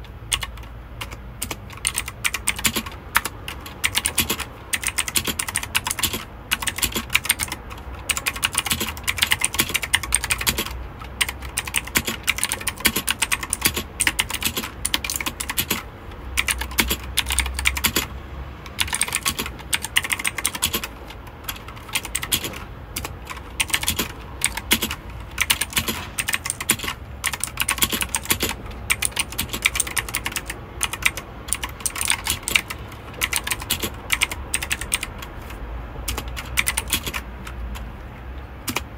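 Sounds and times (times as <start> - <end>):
mechanical keyboard key clicks: 0.3 - 18.1, 18.7 - 37.9, 38.6 - 38.9.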